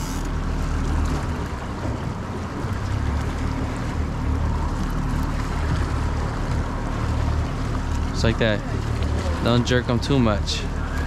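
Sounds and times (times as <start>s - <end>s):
boat wake rushing: 0.0s - 11.0s
outboard motors humming: 0.0s - 11.0s.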